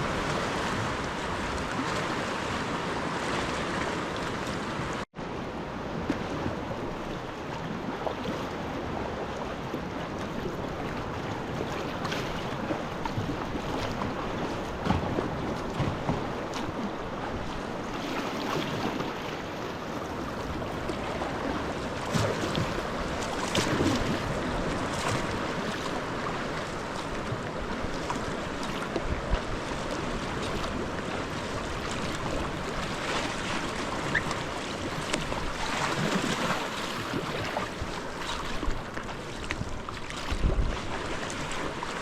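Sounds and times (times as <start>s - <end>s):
water lapping and splashing: 0.0s - 42.0s
wind rumbling on microphone: 0.0s - 42.0s.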